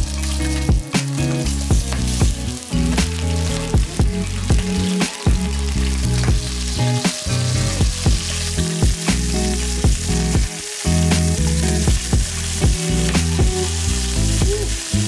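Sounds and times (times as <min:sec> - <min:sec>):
meat sizzling in hot oil: 0:00.0 - 0:15.0
mellow background music: 0:00.0 - 0:15.0.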